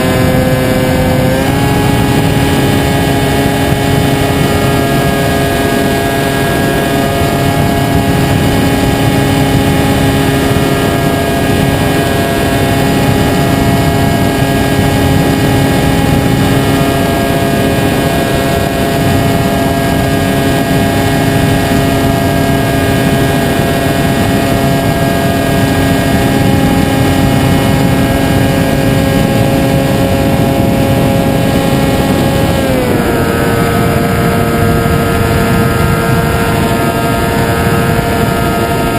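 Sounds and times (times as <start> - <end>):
model airplane motor buzzing: 0.0 - 38.9.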